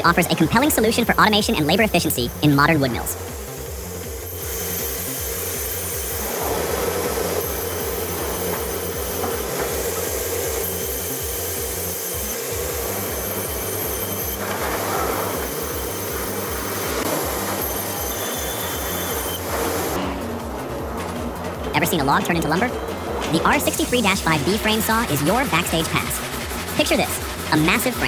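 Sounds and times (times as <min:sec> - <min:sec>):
band saw cutting logs: 0:00.0 - 0:28.0
machinery running: 0:00.0 - 0:28.0.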